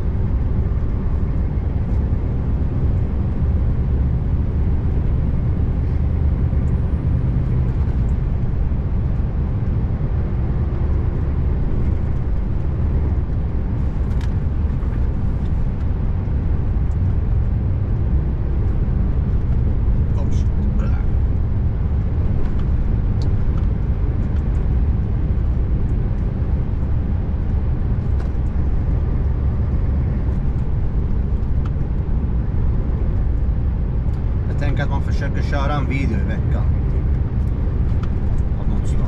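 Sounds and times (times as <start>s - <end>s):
diesel truck engine droning: 0.0s - 39.0s
road noise: 0.0s - 39.0s.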